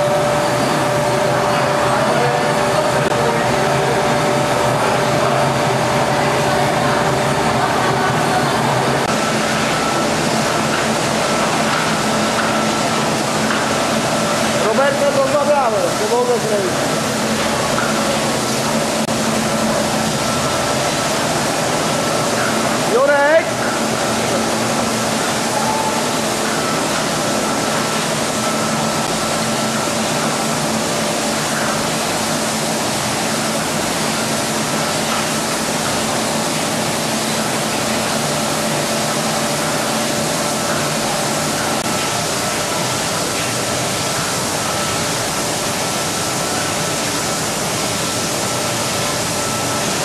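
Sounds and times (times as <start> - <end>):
washing machine water rushing: 0.0 - 50.0.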